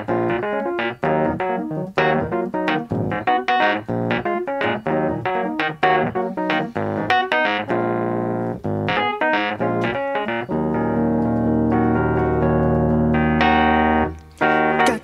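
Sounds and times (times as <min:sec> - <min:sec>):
piano chord stabs: 0:00.0 - 0:15.0.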